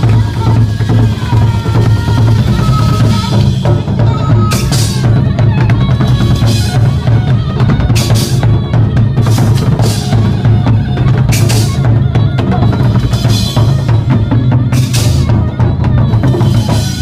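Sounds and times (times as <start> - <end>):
bass drum and snare rhythm: 0.0 - 17.0.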